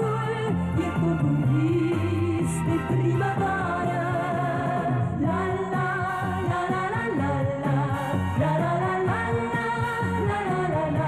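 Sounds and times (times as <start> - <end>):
light pop song with orchestra: 0.0 - 11.0.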